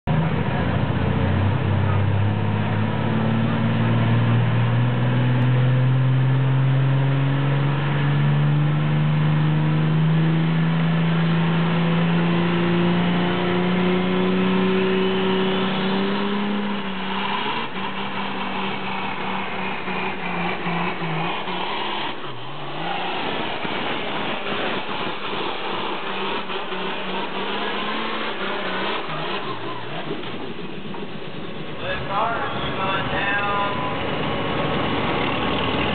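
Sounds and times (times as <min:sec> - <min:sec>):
diesel engine under full load: 0:00.0 - 0:35.9.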